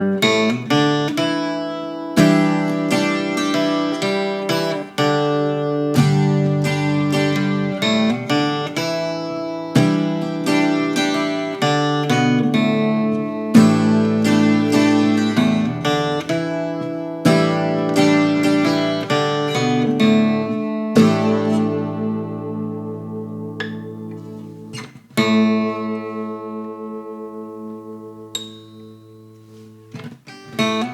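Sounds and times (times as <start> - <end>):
acoustic guitar chords strummed: 0.0 - 30.9.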